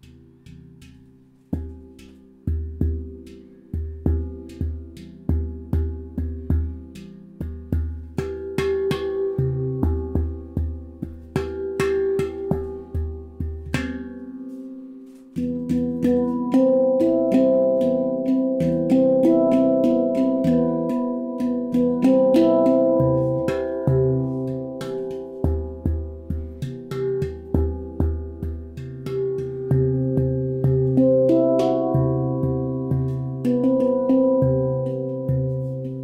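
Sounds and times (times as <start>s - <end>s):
handpan higher notes ringing: 0.0s - 36.0s
handpan low note struck: 0.0s - 36.0s.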